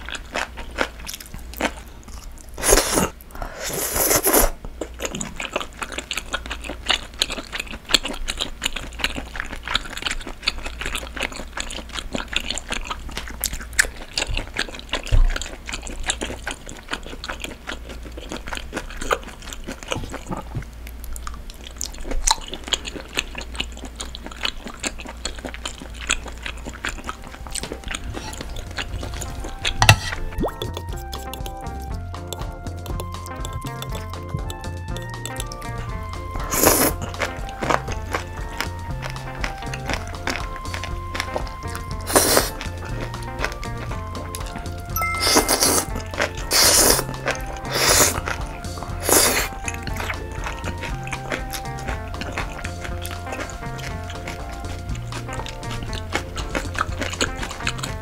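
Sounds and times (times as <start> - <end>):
noodle slurping: 0.0 - 20.5, 22.4 - 31.9, 32.9 - 58.0
wet chewing and crunching: 0.0 - 58.0.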